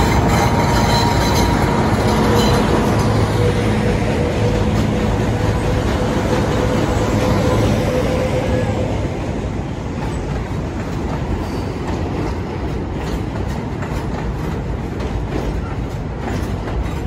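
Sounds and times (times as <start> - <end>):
locomotive engine hum: 0.0 - 17.0
train wheels rumbling and clacking: 0.0 - 17.0.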